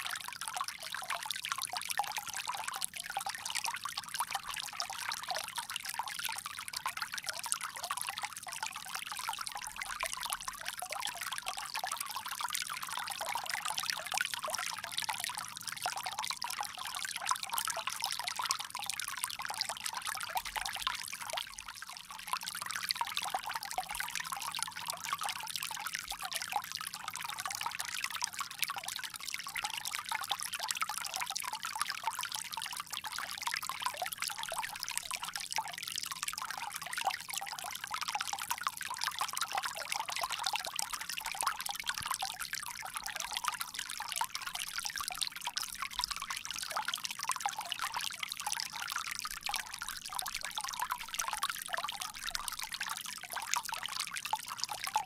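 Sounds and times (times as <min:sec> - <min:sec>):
water trickling from spout: 0:00.6 - 0:55.0.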